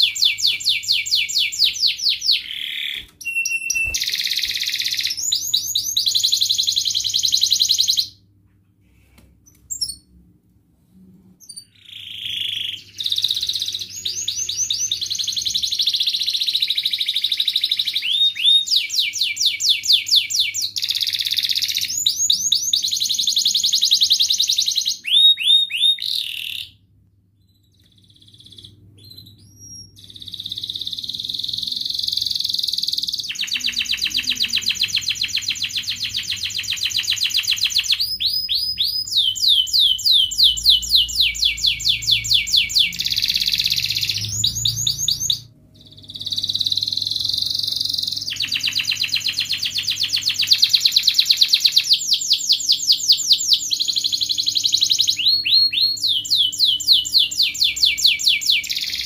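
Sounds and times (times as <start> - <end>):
canary singing: 0.0 - 8.2, 9.5 - 10.2, 11.4 - 26.8, 27.4 - 59.0.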